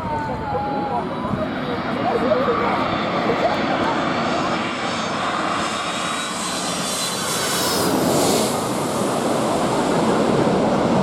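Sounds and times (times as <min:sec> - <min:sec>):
airliner engines passing: 0:00.0 - 0:11.0.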